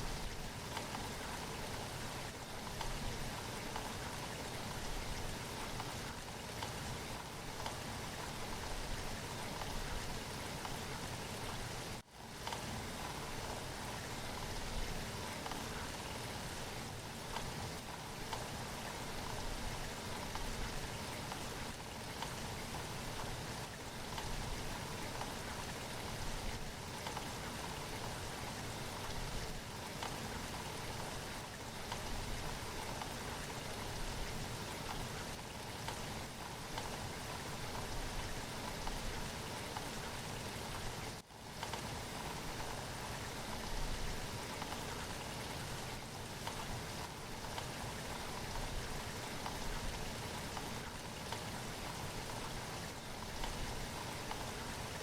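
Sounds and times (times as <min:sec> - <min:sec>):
rain falling on surfaces: 0:00.0 - 0:55.0.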